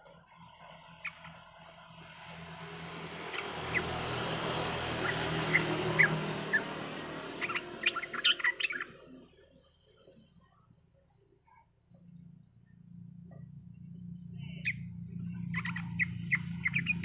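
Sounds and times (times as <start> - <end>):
bird chirping: 0.0 - 10.6, 11.5 - 17.0.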